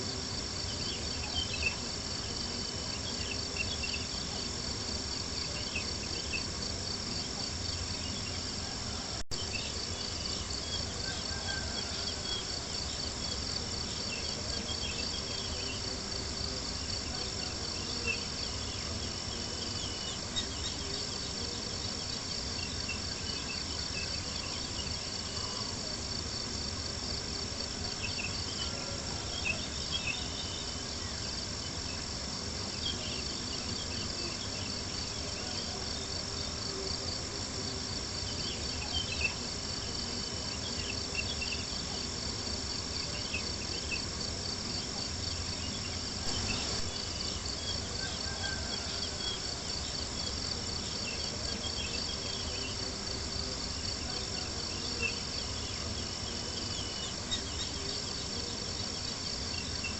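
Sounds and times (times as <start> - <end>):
crickets chirping: 0.0 - 59.9
soft continuous hiss: 0.0 - 59.9.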